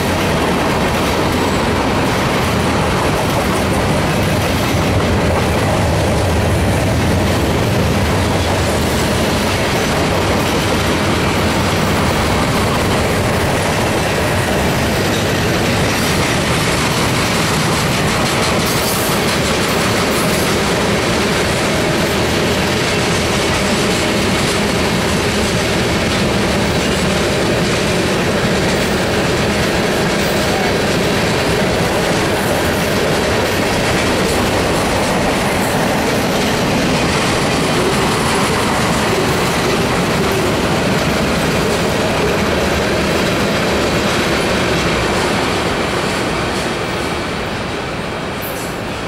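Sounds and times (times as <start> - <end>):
train wheels clattering over rail joints: 0.0 - 49.0.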